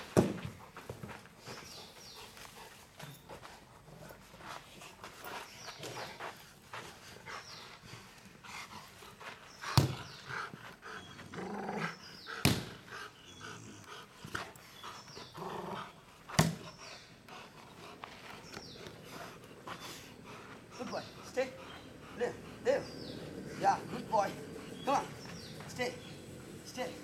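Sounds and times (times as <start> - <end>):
dog panting: 0.4 - 27.0.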